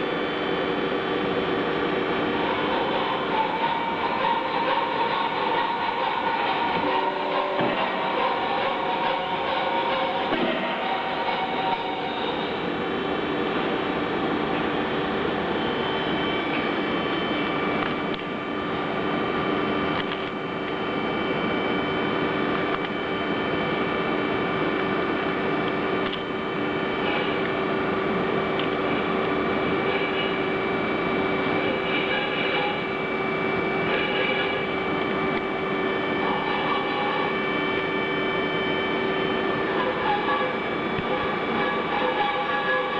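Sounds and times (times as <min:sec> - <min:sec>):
machinery humming steadily: 0:00.0 - 0:42.9.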